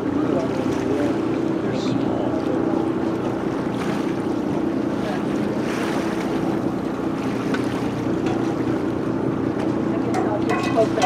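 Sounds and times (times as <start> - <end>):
boat diesel engines droning: 0.0 - 11.0
rushing water: 0.0 - 11.0.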